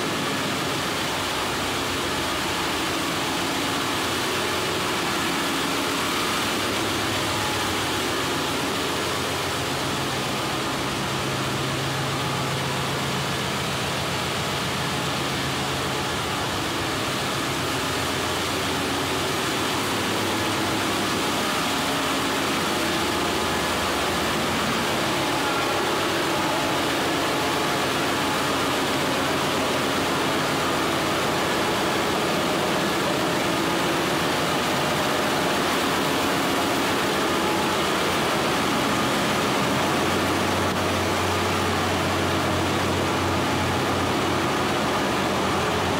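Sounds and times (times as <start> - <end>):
engine room machinery din: 0.0 - 45.9.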